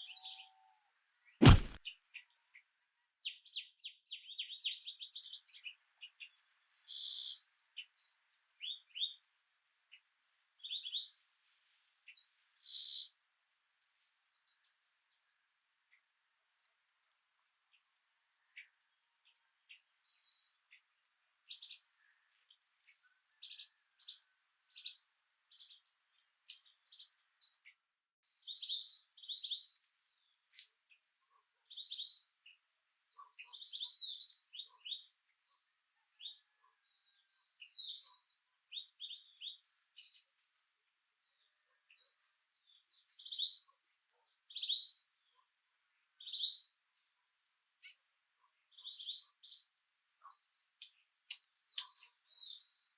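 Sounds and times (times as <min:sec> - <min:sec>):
small birds chirping: 0:00.0 - 0:09.2, 0:09.9 - 0:11.2, 0:12.1 - 0:13.2, 0:14.0 - 0:27.8, 0:28.4 - 0:52.9.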